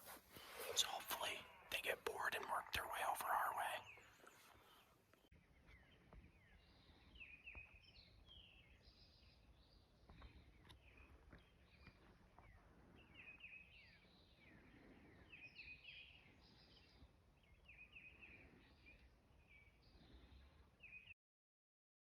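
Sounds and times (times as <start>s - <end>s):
songbirds chirping: 0.0s - 21.2s.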